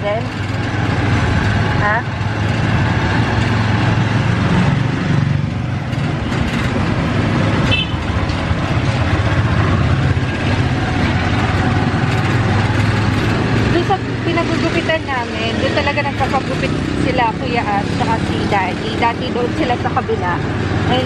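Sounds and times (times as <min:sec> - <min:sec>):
vehicle engine and road hum: 0:00.0 - 0:21.0.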